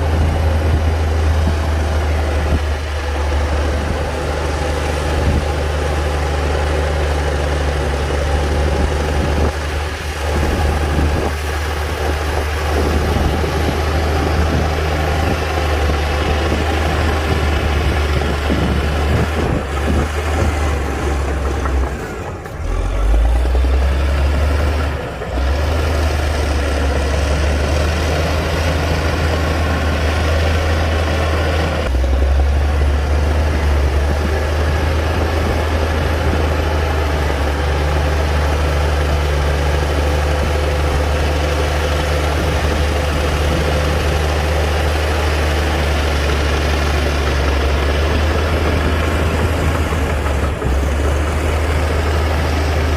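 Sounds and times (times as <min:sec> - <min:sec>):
bulldozer diesel engine rumbling: 0:00.0 - 0:52.9.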